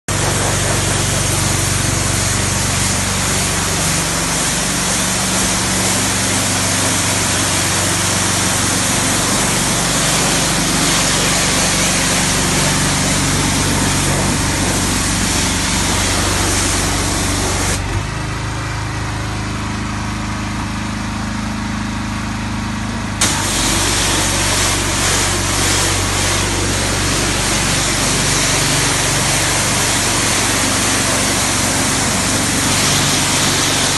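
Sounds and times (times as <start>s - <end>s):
pressure washer spraying: 0.1s - 18.0s, 23.2s - 33.9s
pressure washer engine running: 0.1s - 33.9s.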